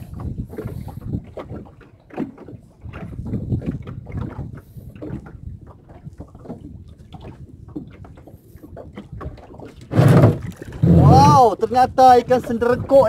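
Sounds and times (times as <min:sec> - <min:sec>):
water lapping against boat hull: 0:00.0 - 0:13.0
wind on microphone: 0:00.0 - 0:13.0.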